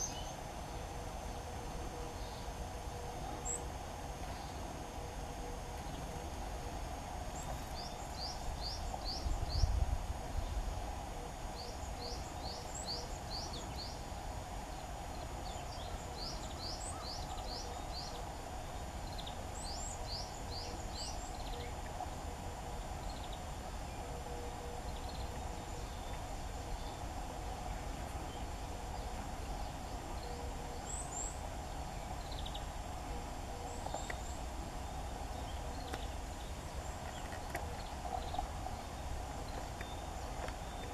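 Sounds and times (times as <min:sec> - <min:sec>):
background hum: 0:00.0 - 0:40.9
songbird singing: 0:00.0 - 0:40.9.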